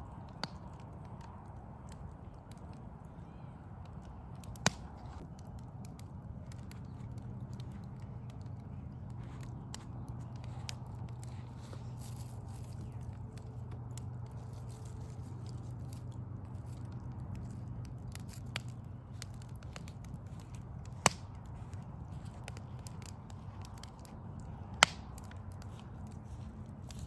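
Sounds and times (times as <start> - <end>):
wood fire crackling: 0.0 - 27.0
fire pops: 0.1 - 2.8, 3.8 - 27.0.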